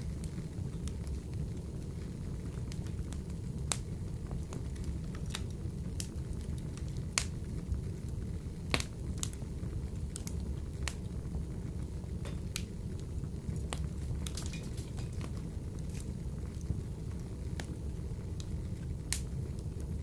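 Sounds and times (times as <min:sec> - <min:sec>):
wood fire crackling in a stove: 0:00.0 - 0:20.0.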